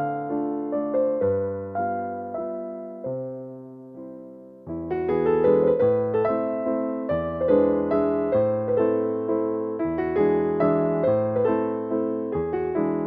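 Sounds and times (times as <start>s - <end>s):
solo piano piece: 0.0s - 13.0s.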